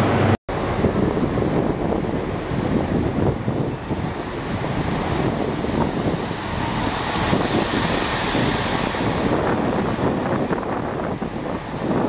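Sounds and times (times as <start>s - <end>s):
train rumbling past: 0.0s - 12.0s
wind noise on microphone: 0.0s - 12.0s.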